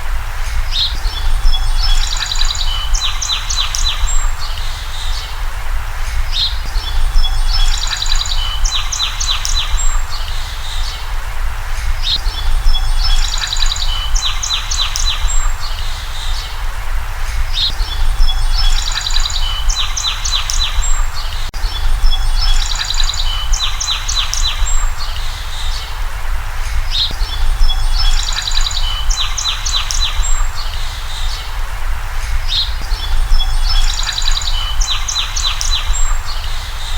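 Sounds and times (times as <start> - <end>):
songbird singing: 0.0 - 36.9
steady low rumble: 0.0 - 36.9.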